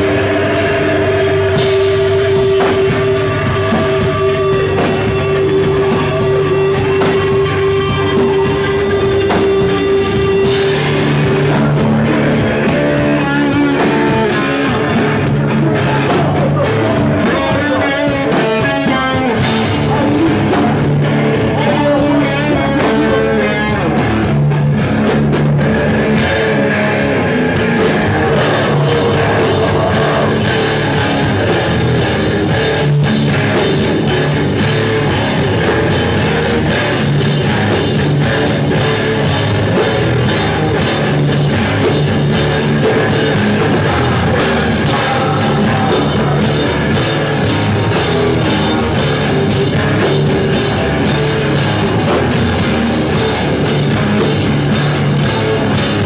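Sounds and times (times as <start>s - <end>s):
drum kit and cymbals: 0.0s - 22.2s, 23.9s - 56.0s
distorted electric guitars: 0.0s - 56.0s.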